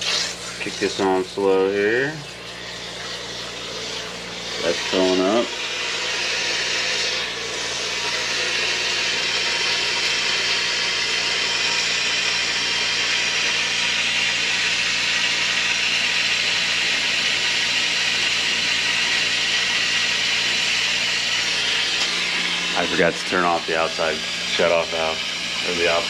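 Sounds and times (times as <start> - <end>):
water hissing through valve: 0.0 - 26.0.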